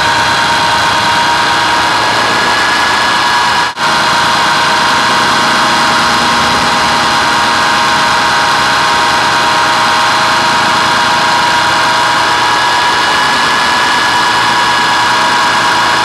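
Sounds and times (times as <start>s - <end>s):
helicopter motor whine: 0.0s - 16.0s
rushing air: 0.0s - 16.0s.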